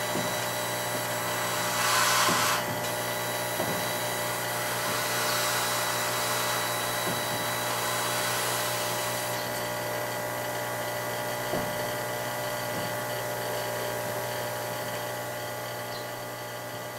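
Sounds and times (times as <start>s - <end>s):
machine fans whirring hum: 0.0s - 16.9s.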